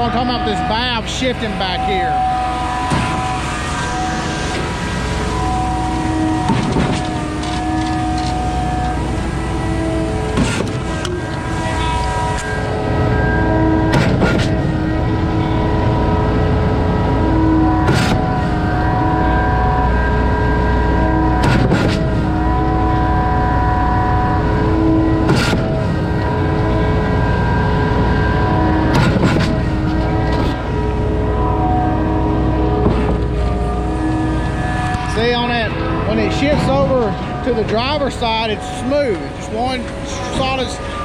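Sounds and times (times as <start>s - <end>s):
pump truck engine running: 0.0s - 41.0s.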